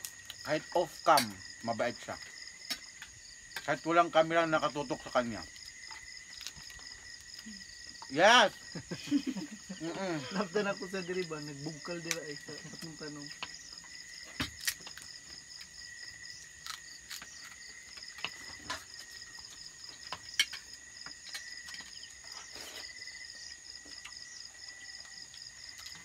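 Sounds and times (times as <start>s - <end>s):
crickets chirping: 0.0s - 26.0s
low insect tone: 0.0s - 26.0s.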